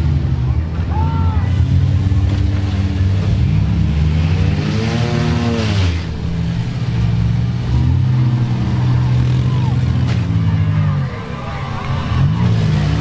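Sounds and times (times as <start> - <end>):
car engine revving: 0.0 - 13.0
car engines droning: 0.0 - 13.0.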